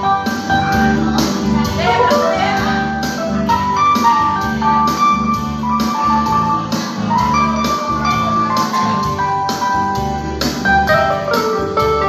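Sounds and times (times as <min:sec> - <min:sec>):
drum and bass accompaniment: 0:00.0 - 0:12.0
electronic keyboard melody: 0:00.0 - 0:12.0.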